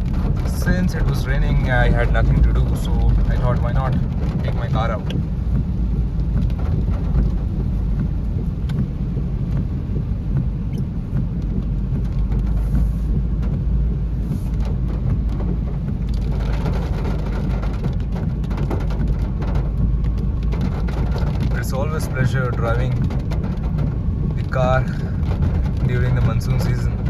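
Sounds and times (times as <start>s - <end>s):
moving car rumble: 0.0s - 27.0s
rain ticking on car: 0.0s - 27.0s.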